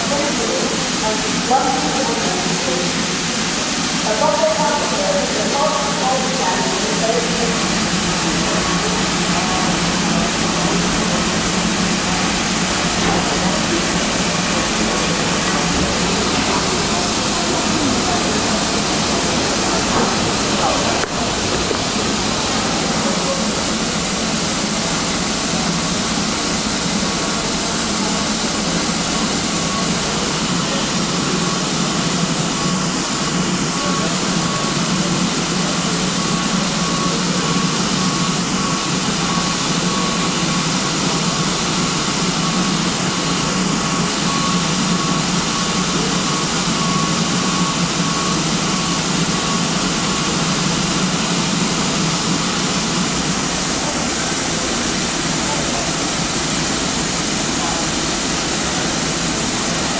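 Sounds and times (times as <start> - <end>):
steam hissing: 0.0 - 59.9.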